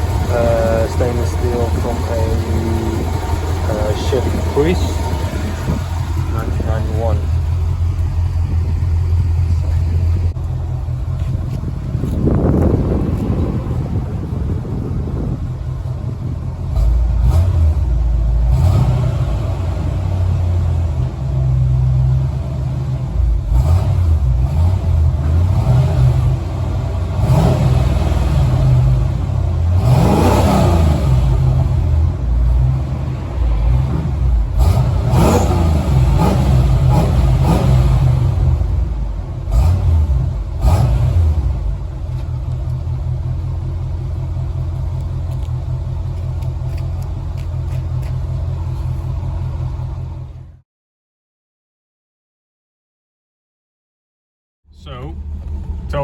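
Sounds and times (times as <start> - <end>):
car engine under throttle: 0.0 - 50.6.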